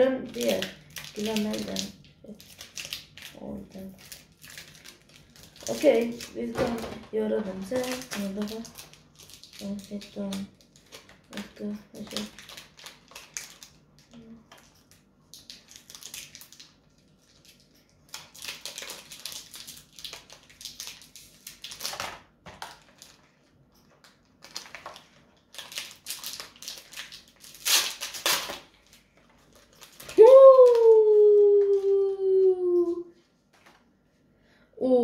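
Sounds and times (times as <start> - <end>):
foil wrapper tearing and crinkling: 0.0 - 6.6, 7.5 - 23.4, 24.0 - 31.1.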